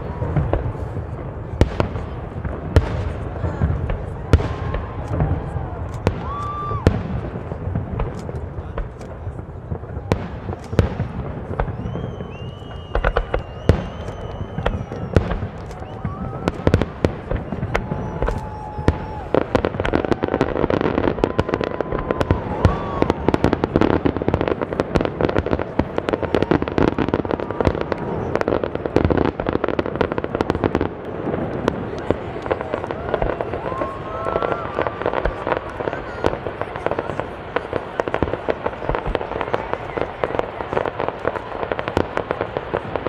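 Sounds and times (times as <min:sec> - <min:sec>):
fireworks bangs and crackles: 0:00.0 - 0:43.0
whistling fireworks: 0:00.0 - 0:43.0.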